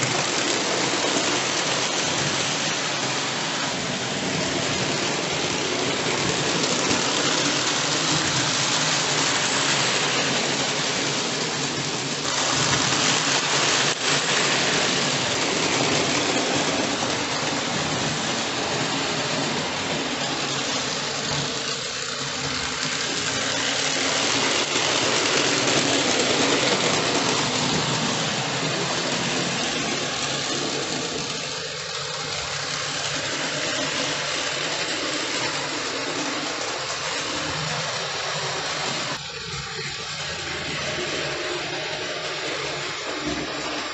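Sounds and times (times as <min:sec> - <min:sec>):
model train whirring on track: 0:00.0 - 0:43.9.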